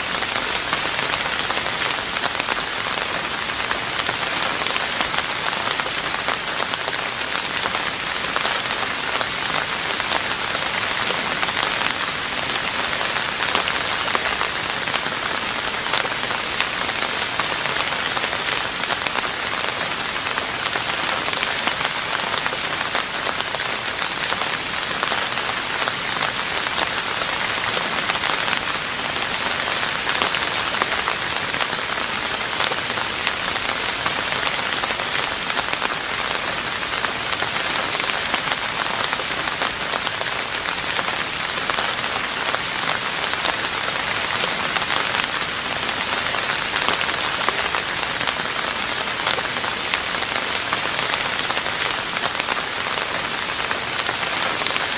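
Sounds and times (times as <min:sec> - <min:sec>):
rain falling on a roof: 0:00.0 - 0:54.9.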